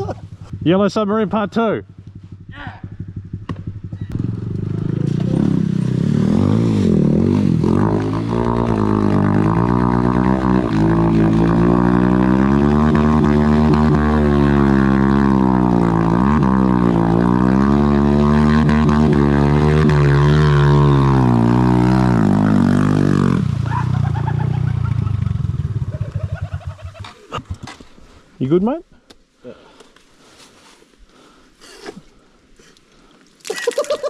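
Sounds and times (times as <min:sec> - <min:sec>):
motorbike engine revving: 0:00.0 - 0:27.7.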